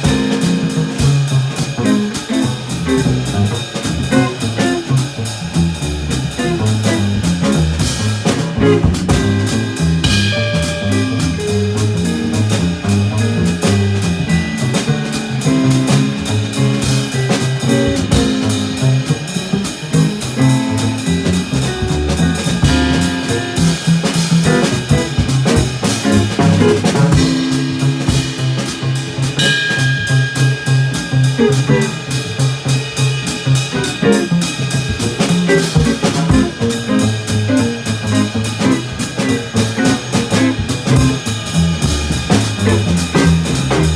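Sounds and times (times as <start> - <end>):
instrumental jazz: 0.0 - 43.9.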